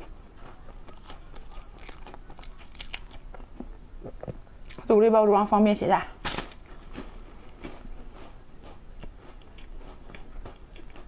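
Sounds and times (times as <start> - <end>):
crunchy wafer chewing: 0.0 - 4.9, 6.8 - 11.0.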